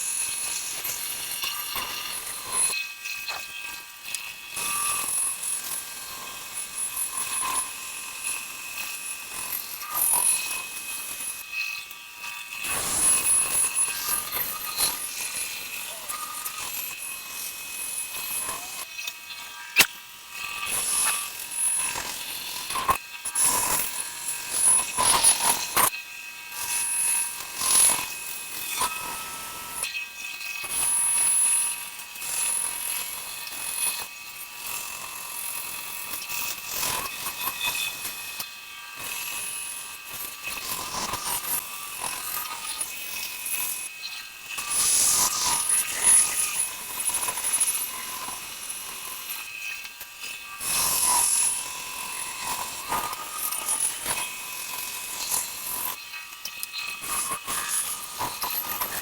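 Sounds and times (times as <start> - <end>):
power saw cutting wood: 0.0 - 59.0.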